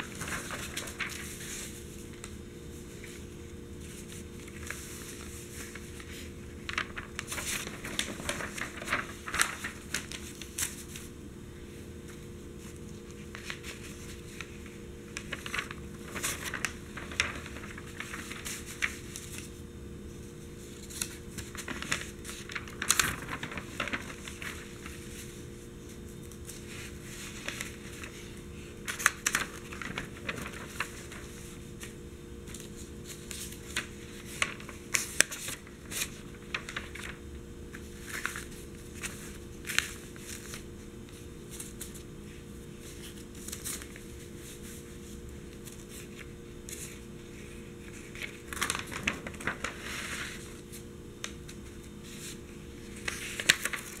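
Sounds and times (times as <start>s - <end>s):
newspaper pages rustling: 0.0s - 11.2s, 11.8s - 54.0s.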